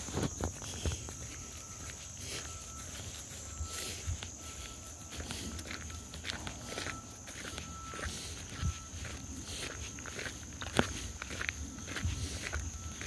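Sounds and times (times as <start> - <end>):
footsteps through marsh vegetation: 0.0 - 13.0
insect chorus: 0.0 - 13.0.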